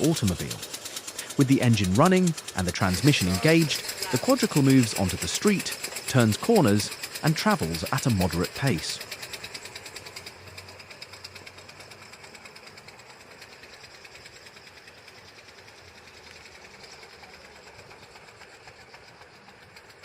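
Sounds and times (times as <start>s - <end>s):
small engine clattering: 0.0s - 20.0s.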